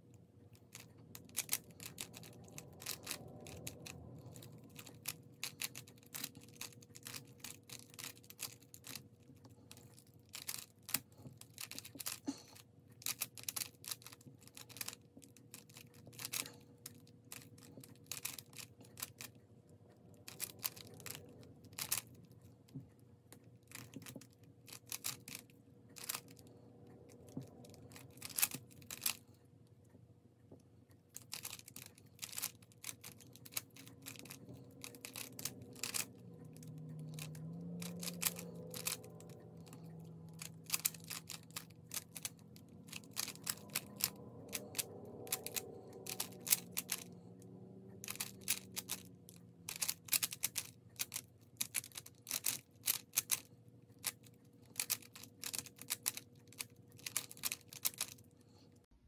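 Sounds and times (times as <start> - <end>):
puzzle cube layers clicking: 0.5 - 9.1, 13.0 - 19.4, 20.2 - 22.6, 23.6 - 26.4, 27.2 - 29.2, 31.2 - 47.4, 48.0 - 58.2.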